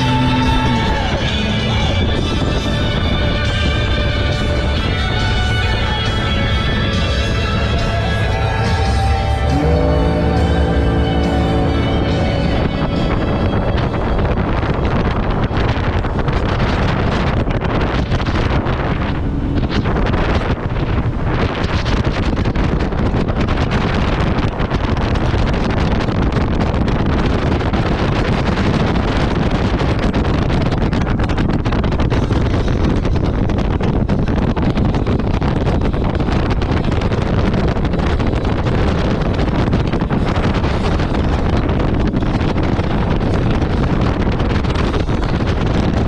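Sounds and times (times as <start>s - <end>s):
jet ski engine running: 0.0s - 46.0s
wind buffeting microphone: 0.0s - 46.0s.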